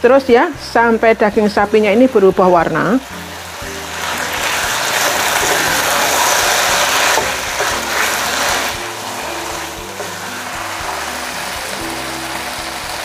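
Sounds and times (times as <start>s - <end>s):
meat sizzling in a wok: 0.7s - 13.0s.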